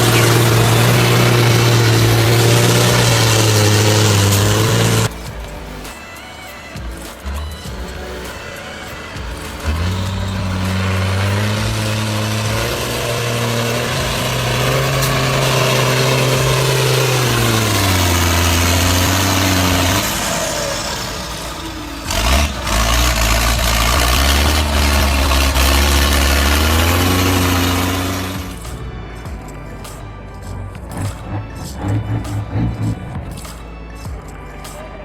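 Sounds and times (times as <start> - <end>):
heavy vehicle engine revving: 0.0 - 5.9, 7.2 - 29.0, 29.7 - 33.6.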